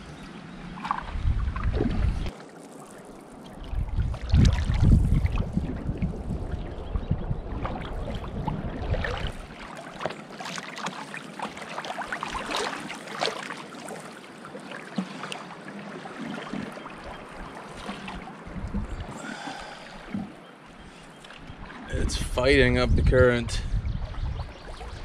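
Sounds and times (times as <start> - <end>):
water splashing around canoe: 0.7 - 22.0.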